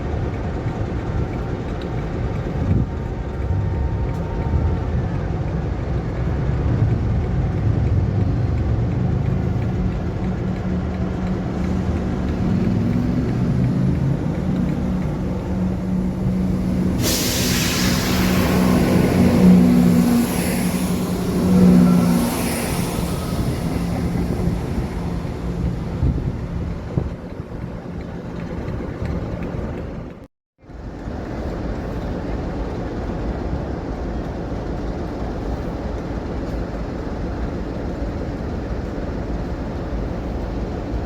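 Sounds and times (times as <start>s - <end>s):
hiss of passing train: 0.0s - 29.4s, 30.7s - 41.0s
train engine hum: 0.0s - 41.0s.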